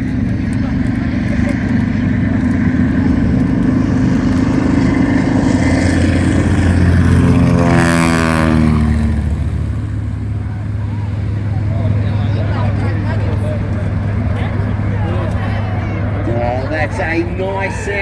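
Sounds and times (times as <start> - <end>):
aircraft radial engine passing by: 0.0 - 18.0.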